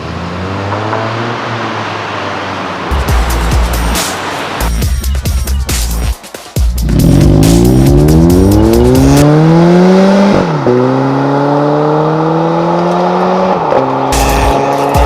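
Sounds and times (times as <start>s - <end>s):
car engine accelerating hard: 0.0s - 4.7s, 6.8s - 15.0s.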